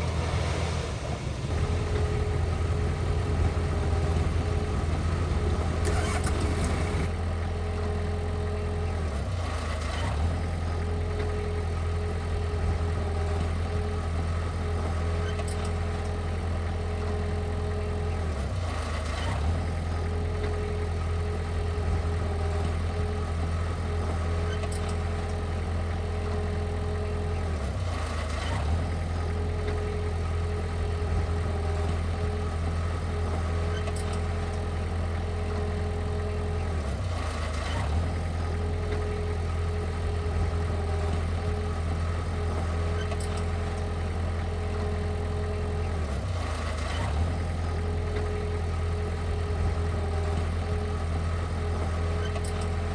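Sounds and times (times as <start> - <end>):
heavy machinery engine humming: 0.0 - 52.9.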